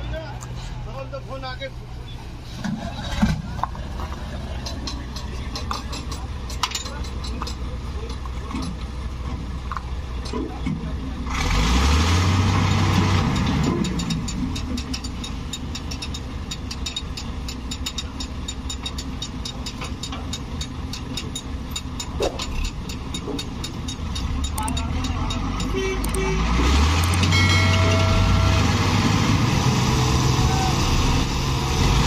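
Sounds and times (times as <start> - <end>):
ferry engine running: 0.0 - 32.0.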